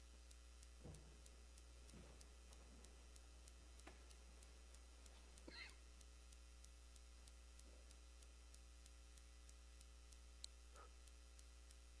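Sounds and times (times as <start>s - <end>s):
faint regular ticking: 0.0s - 12.0s
faint static: 0.0s - 12.0s
low electrical hum: 0.0s - 12.0s.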